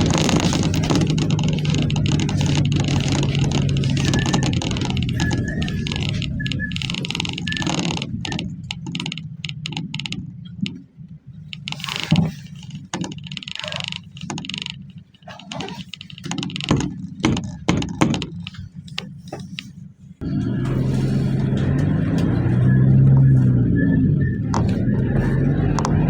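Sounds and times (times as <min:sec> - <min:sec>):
engine and road drone: 0:00.0 - 0:17.6, 0:18.2 - 0:26.0
clicks knocks and rattles: 0:00.0 - 0:19.8, 0:24.4 - 0:26.0.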